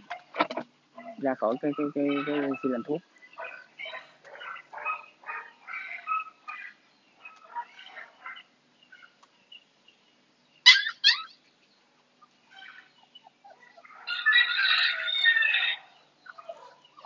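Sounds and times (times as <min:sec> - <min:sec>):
animal calls: 0:01.0 - 0:09.2, 0:10.6 - 0:11.4, 0:12.2 - 0:17.0.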